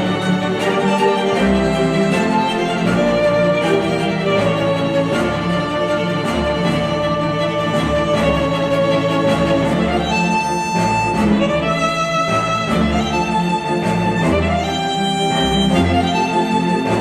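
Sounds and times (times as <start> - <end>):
instrumental music with bowed strings: 0.0 - 17.0.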